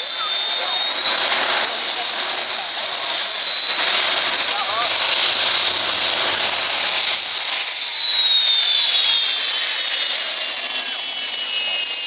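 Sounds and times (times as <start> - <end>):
jet engine hiss and whine: 0.0 - 12.0.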